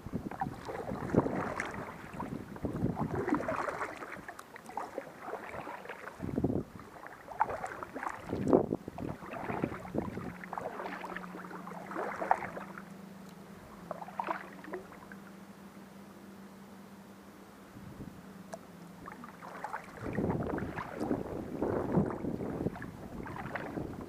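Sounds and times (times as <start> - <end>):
paddle blades splashing: 0.0 - 15.8, 18.3 - 24.0
faint low hum: 0.0 - 24.0.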